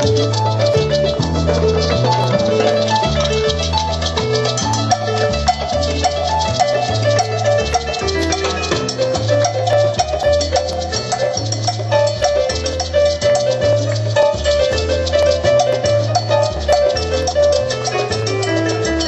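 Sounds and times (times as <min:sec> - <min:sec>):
bass line: 0:00.0 - 0:19.0
hand percussion: 0:00.0 - 0:19.0
keyboard figure: 0:00.0 - 0:19.0.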